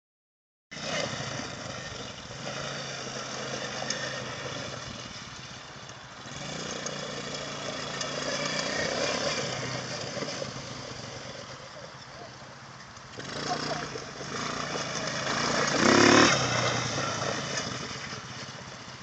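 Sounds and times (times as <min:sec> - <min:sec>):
small atv engine idling: 0:00.8 - 0:19.0.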